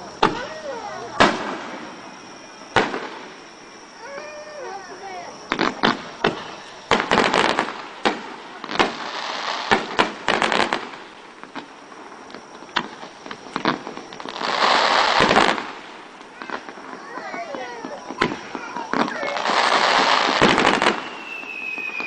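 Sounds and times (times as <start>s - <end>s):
fireworks bursting with sharp bangs: 0.0s - 22.0s
fireworks crackling: 0.0s - 22.0s.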